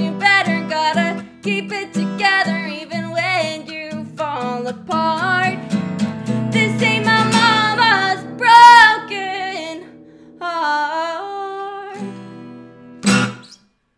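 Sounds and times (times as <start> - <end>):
guitar strumming: 0.0 - 10.4, 12.0 - 13.7
woman singing: 0.0 - 12.2.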